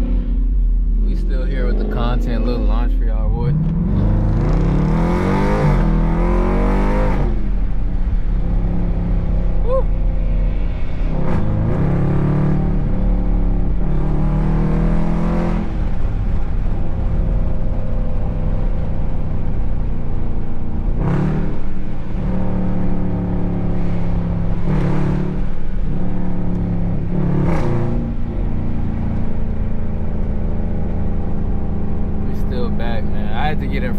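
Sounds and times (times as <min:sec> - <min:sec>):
muscle car exhaust accelerating: 0:00.0 - 0:33.9.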